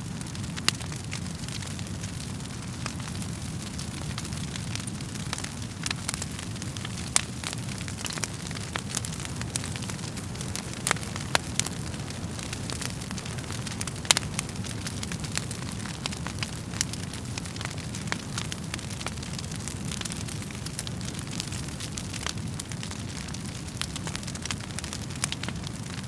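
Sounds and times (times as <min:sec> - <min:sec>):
burning logs crackling and popping: 0:00.0 - 0:26.0
low rumble of flames: 0:00.0 - 0:26.0.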